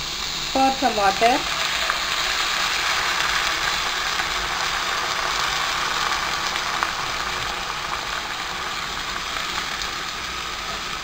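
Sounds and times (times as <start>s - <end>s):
food sizzling in pan: 0.0s - 11.0s.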